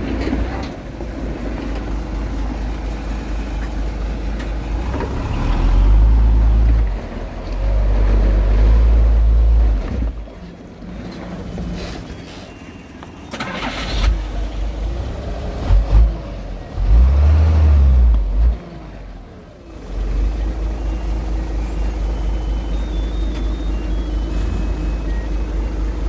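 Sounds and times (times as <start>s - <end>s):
heavy diesel engine rumbling: 0.0s - 26.0s.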